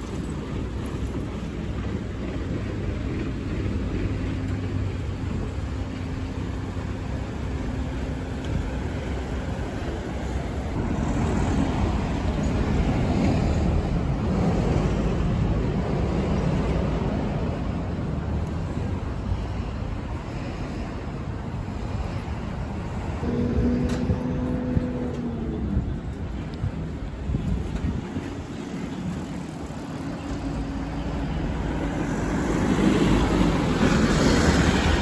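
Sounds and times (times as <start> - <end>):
road traffic engine drone: 0.0 - 35.0.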